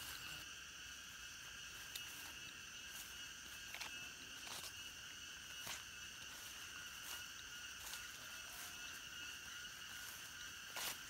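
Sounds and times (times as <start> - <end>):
insects chirring: 0.0 - 11.0
footsteps through grass: 1.3 - 11.0.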